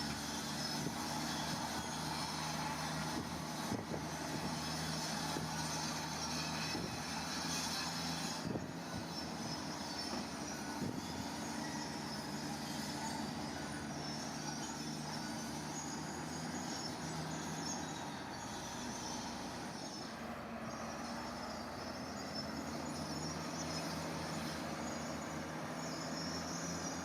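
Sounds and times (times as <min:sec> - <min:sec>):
heavy machinery diesel engine: 0:00.0 - 0:27.0.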